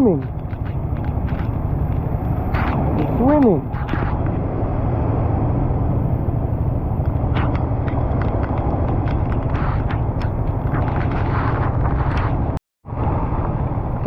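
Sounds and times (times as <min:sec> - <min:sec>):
wind and road noise rumble: 0:00.0 - 0:14.0.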